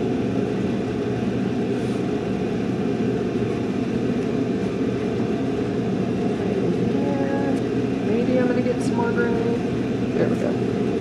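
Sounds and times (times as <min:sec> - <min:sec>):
low room noise rumble: 0:00.0 - 0:11.0.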